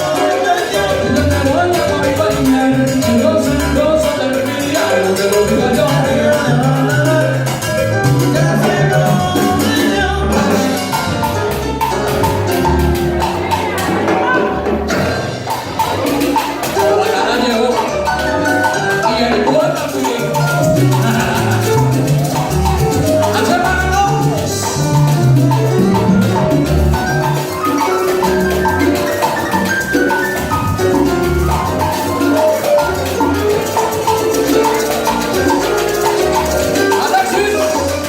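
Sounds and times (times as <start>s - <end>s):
salsa band playing: 0.0s - 38.0s.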